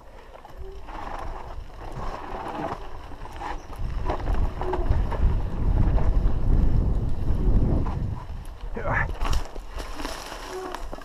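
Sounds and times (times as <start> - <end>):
bike tyre rumble: 0.0 - 11.0
clicks and knocks over rough ground: 0.0 - 11.0
wind buffeting microphone: 0.6 - 10.0.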